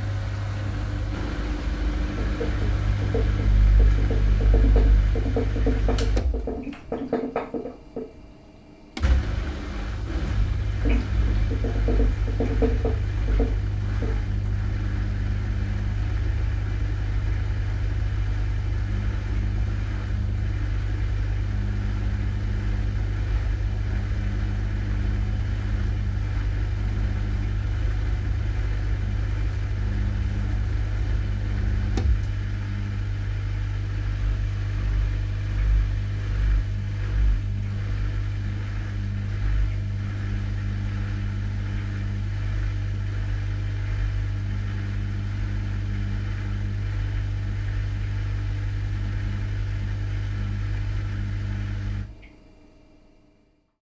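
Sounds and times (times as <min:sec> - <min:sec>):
low surges: 0:00.0 - 0:06.5, 0:09.0 - 0:51.0
water noise: 0:00.0 - 0:08.2, 0:09.0 - 0:52.3
dishwasher motor and pump hum: 0:00.0 - 0:53.3.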